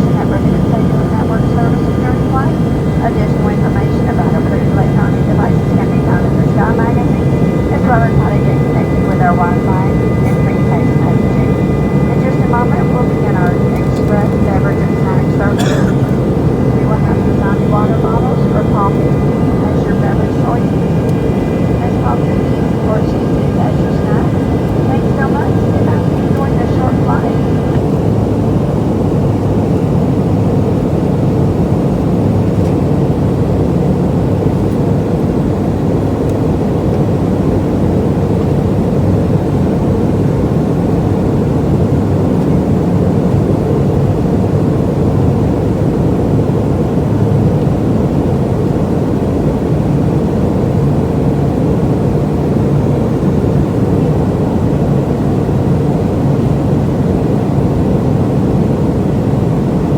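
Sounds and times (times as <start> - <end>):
airliner cabin engine noise: 0.0 - 59.9.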